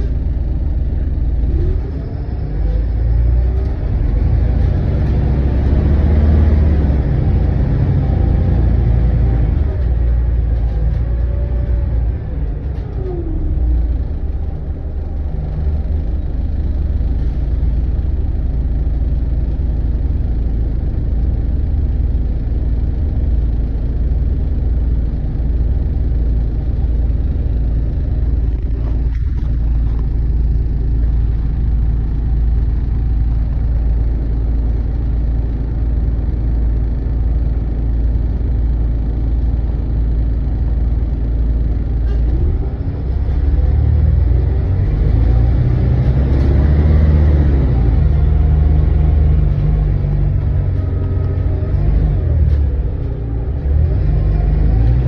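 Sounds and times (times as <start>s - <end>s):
bus diesel engine rumble: 0.0s - 55.0s.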